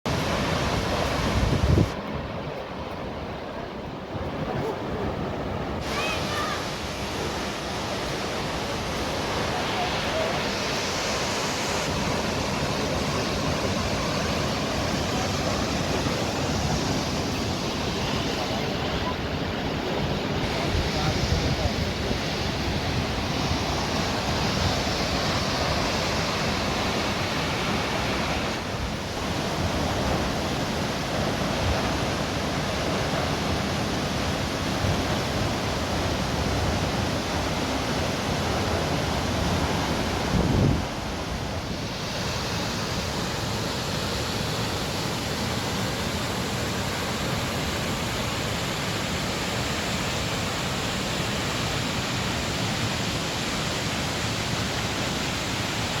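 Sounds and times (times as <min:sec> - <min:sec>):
waterfall rushing: 0:00.1 - 0:56.0.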